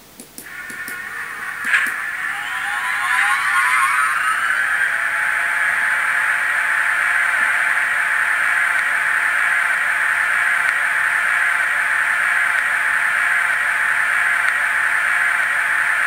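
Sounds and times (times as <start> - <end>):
electric train whining hum: 0.0 - 16.0.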